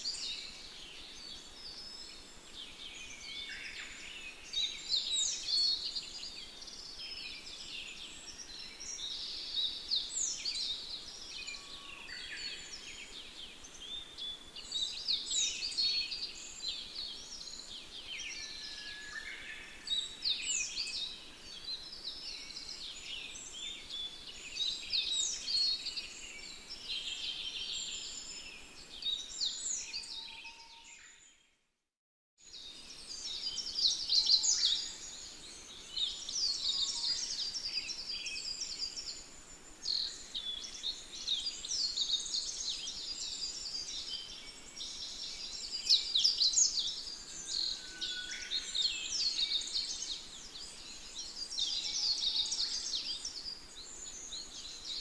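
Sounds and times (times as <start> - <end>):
small birds chirping: 0.0 - 31.5, 32.4 - 55.0.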